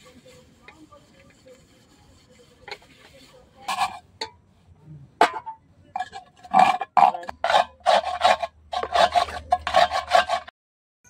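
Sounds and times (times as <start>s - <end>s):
pot being scrubbed: 0.0s - 4.3s, 5.3s - 10.5s.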